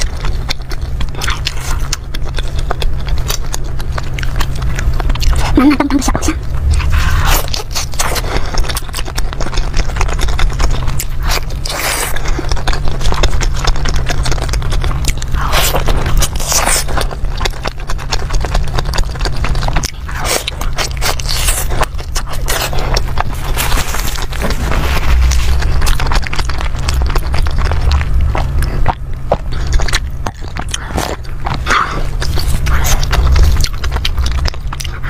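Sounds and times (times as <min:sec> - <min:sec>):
crunchy food chewing: 0:00.0 - 0:35.0.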